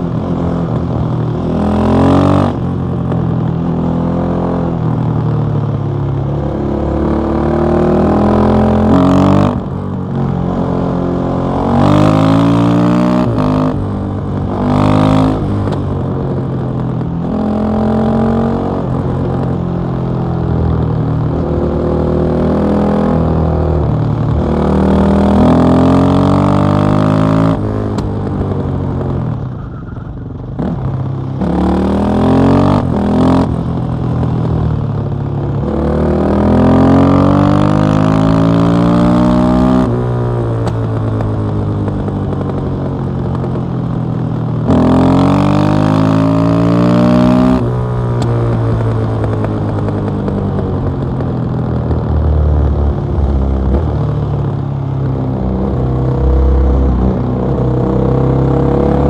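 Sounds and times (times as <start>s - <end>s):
motorcycle engine revving: 0.0s - 5.1s, 5.7s - 59.0s.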